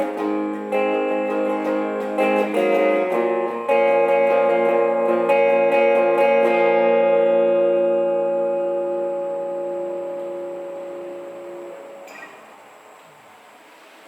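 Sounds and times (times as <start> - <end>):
plucked guitar over chords: 0.0 - 12.8.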